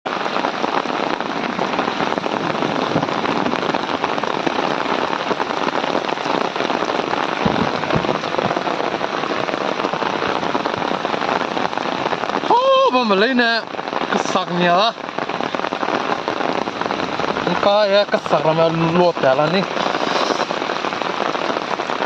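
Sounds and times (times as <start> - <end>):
hail and rain pelting down: 0.1 - 22.0.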